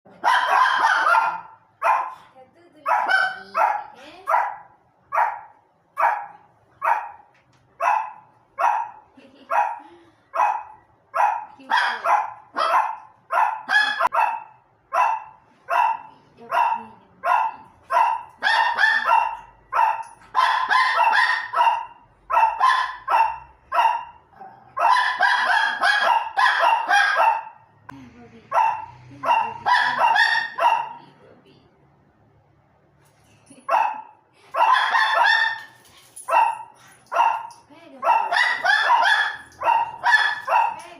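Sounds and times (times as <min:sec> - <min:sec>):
dogs barking: 0:00.2 - 0:02.2, 0:02.8 - 0:27.7, 0:28.5 - 0:31.0, 0:33.7 - 0:40.9.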